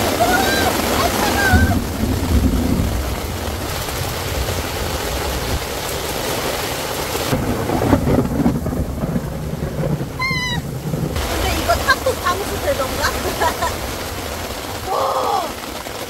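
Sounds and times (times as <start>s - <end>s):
low rumble of thunder: 0.0s - 6.1s, 7.3s - 15.4s
heavy rain on a tarp: 0.0s - 16.0s.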